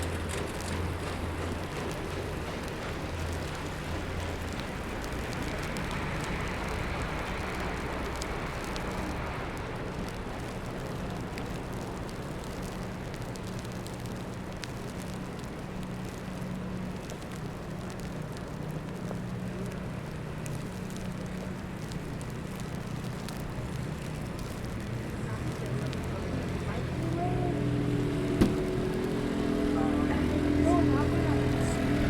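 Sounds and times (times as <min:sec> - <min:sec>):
low vehicle engine hum: 0:00.0 - 0:32.0
street noise: 0:00.0 - 0:32.0.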